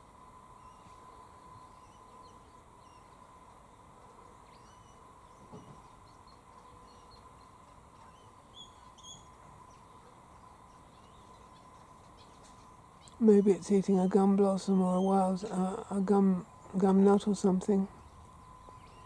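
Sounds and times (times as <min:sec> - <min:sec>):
faint high-pitched hum: 0:00.0 - 0:19.0
birds chirping: 0:00.6 - 0:19.0.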